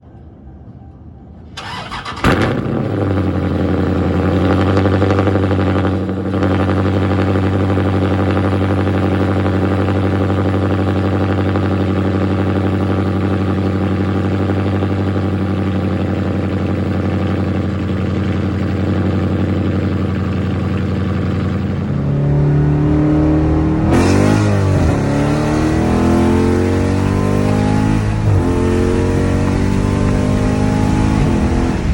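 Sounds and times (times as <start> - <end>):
car engine starting and idling: 0.7 - 31.9
car engine revving: 1.6 - 31.9.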